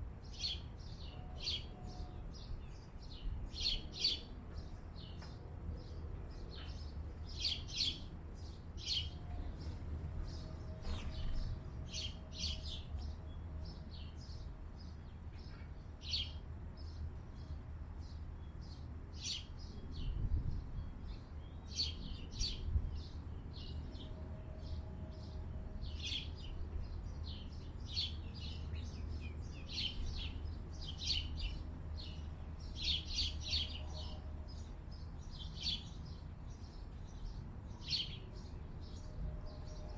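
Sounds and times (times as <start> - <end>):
small birds chirping: 0.2 - 39.9.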